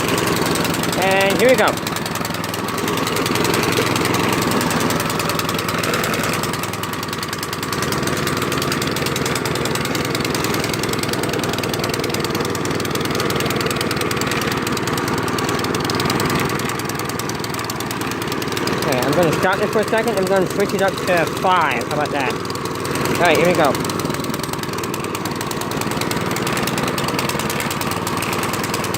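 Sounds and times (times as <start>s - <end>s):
snowblower engine running: 0.0s - 28.9s.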